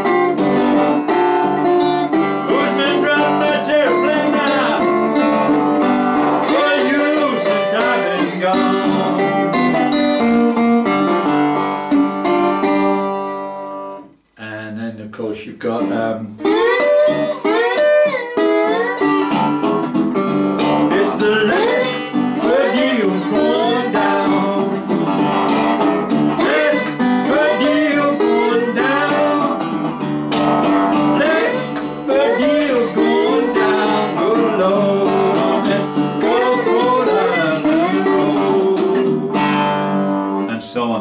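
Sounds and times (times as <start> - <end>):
slide guitar notes: 0.0 - 14.3, 15.7 - 41.0
picked bass notes: 0.0 - 41.0.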